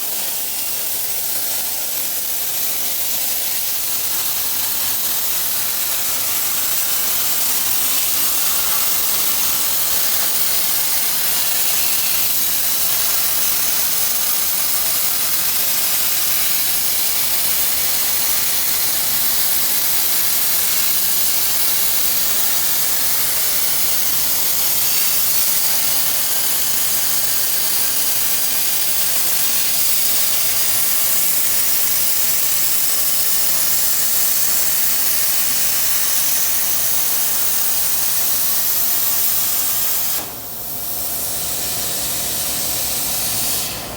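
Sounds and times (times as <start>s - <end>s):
plasma cutter hissing: 0.0s - 43.9s.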